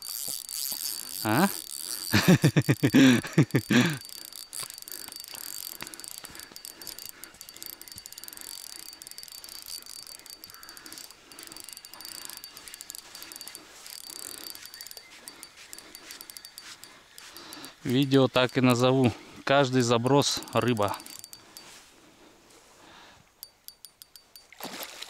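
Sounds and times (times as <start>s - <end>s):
fishing reel ticking: 0.0s - 21.8s, 23.3s - 24.5s.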